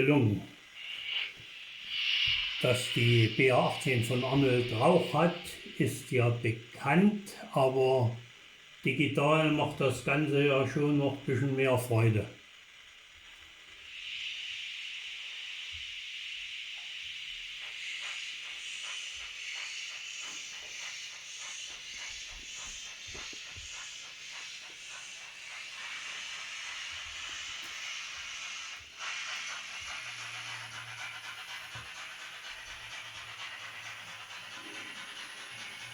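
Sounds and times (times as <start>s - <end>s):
model locomotive chuffs: 0.0s - 13.1s, 13.8s - 35.9s
steam hiss from small speaker: 0.0s - 35.9s.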